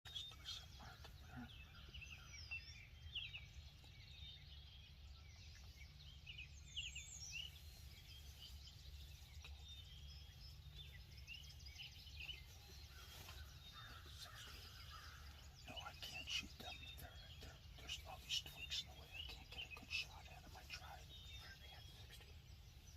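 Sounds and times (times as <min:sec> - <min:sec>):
songbird chirps and whistled calls: 0:00.1 - 0:22.9.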